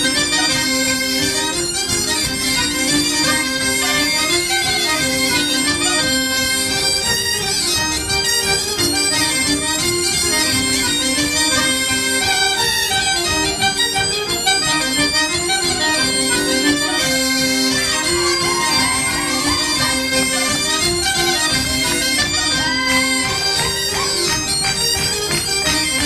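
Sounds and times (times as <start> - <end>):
bagpipe folk-dance music: 0.0 - 26.0.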